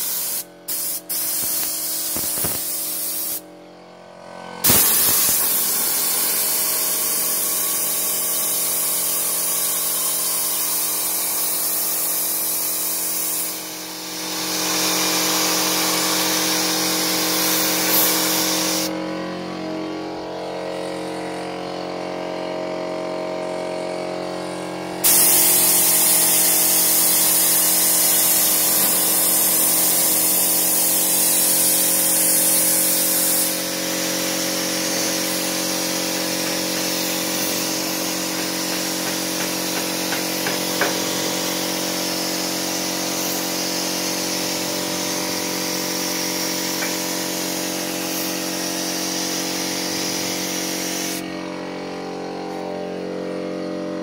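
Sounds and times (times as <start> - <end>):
paint spray gun hissing: 0.0 - 3.4, 4.6 - 53.0
air compressor hum: 0.0 - 54.0.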